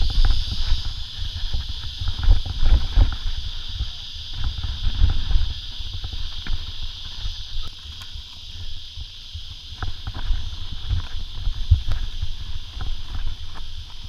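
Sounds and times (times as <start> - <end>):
bike knocking and rattling: 0.0 - 14.0
bike tyres rumbling over rock: 0.0 - 14.0.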